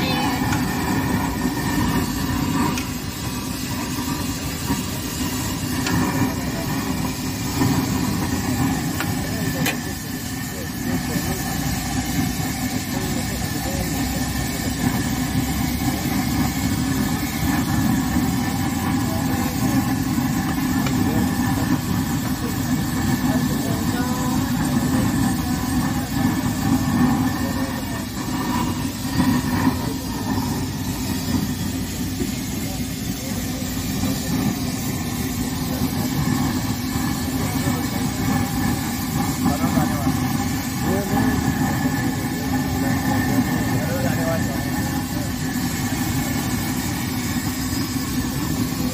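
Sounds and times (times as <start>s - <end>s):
oil bubbling and sizzling: 0.0s - 48.9s
stove low rumble: 0.0s - 48.9s.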